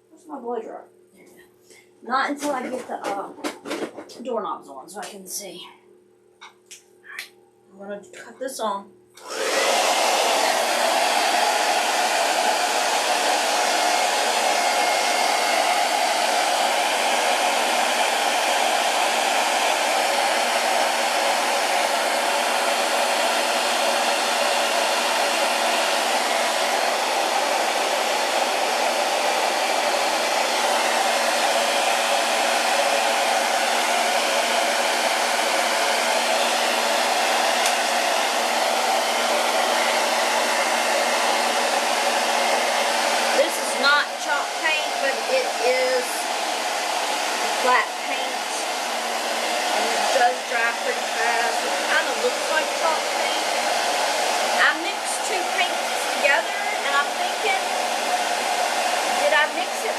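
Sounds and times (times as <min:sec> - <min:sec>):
blow dryer running: 0:09.2 - 0:59.9.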